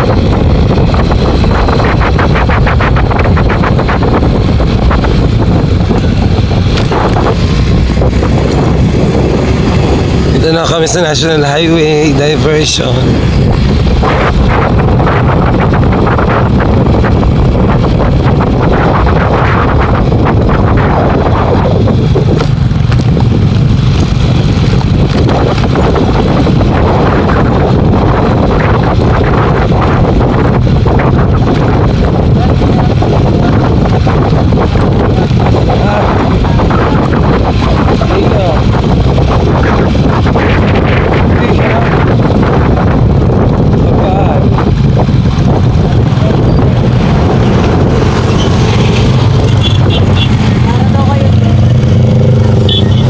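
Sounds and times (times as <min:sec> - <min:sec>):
vehicle rumble on road: 0:00.0 - 0:53.0
wind buffeting microphone: 0:00.0 - 0:53.0.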